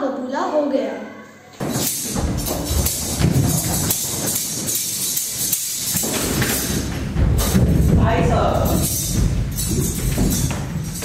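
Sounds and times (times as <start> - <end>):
jingling percussion: 1.6 - 11.0.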